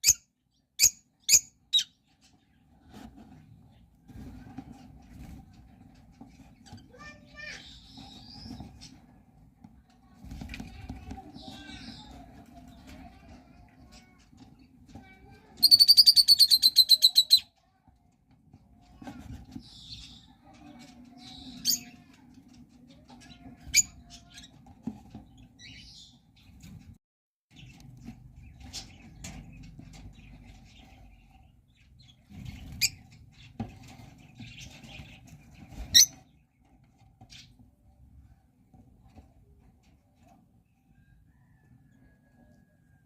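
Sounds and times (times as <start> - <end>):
lovebirds chirping and trilling: 0.0 - 18.0, 18.6 - 43.0.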